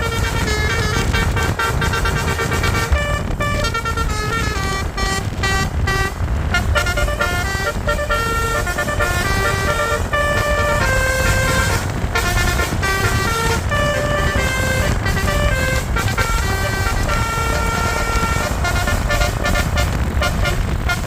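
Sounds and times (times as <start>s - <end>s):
low vehicle rumble: 0.0s - 21.0s
multi-tone bus horn melody: 0.0s - 21.0s.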